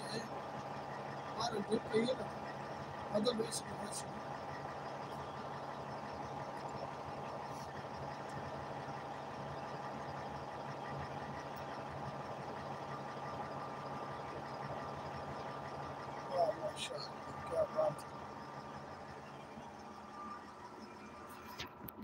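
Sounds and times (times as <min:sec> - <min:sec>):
heavy machine engine idling: 0:00.0 - 0:22.0.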